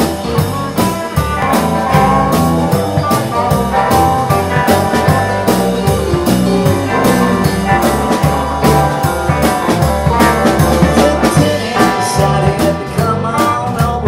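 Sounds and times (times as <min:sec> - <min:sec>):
drums keeping steady beat: 0:00.0 - 0:14.0
rock band playing: 0:00.0 - 0:14.0.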